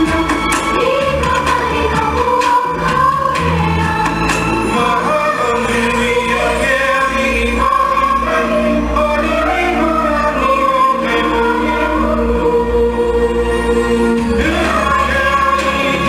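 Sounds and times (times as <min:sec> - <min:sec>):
dance music: 0:00.0 - 0:16.0
steady bass line: 0:00.0 - 0:16.0
voices singing together: 0:00.0 - 0:16.0.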